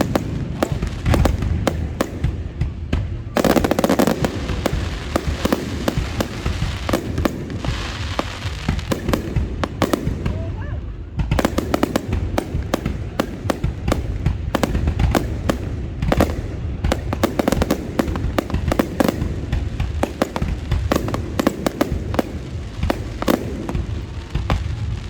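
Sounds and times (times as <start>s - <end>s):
fireworks cracks and bangs: 0.0s - 25.0s.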